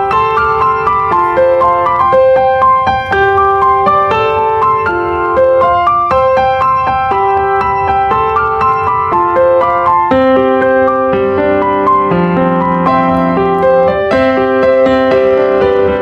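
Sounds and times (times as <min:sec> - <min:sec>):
keyboard melody: 0:00.0 - 0:16.0.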